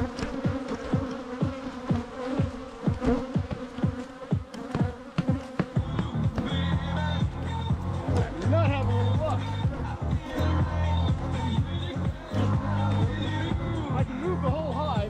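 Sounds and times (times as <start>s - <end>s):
bees buzzing past: 0.0s - 14.8s.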